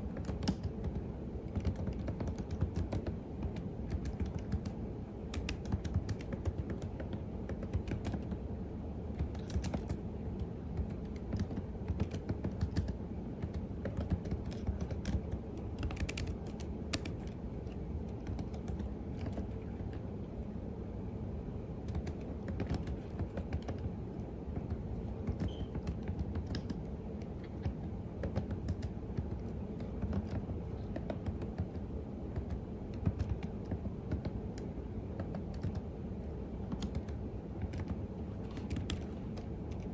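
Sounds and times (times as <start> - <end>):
computer keyboard typing: 0.0 - 8.4, 9.1 - 20.1, 21.8 - 35.9, 36.6 - 39.9
steady low hum: 0.0 - 39.9.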